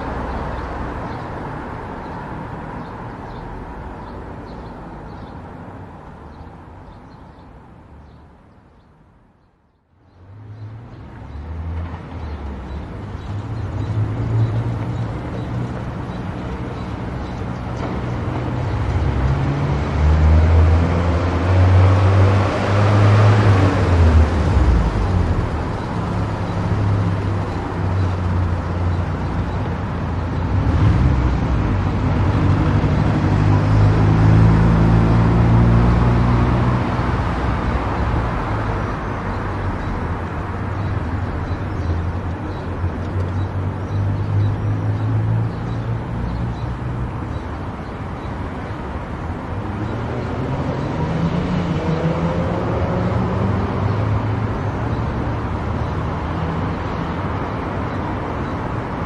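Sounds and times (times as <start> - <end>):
tyre and road noise: 0.0 - 59.0.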